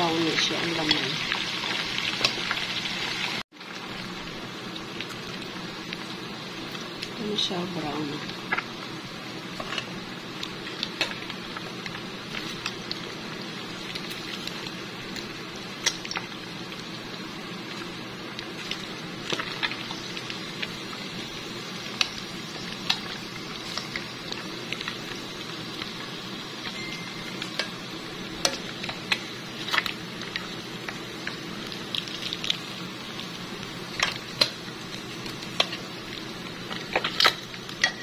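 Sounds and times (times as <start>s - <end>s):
oil popping and crackling: 0.0s - 26.8s, 27.4s - 38.0s
chicken sizzling in hot oil: 0.0s - 38.0s.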